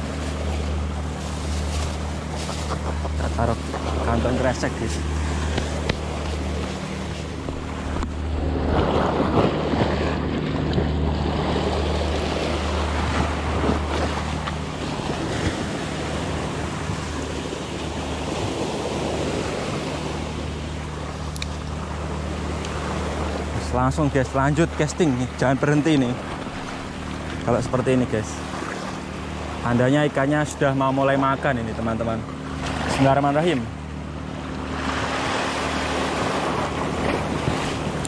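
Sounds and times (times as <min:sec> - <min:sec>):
waves breaking on rocky shore: 0:00.0 - 0:33.7, 0:34.4 - 0:38.0.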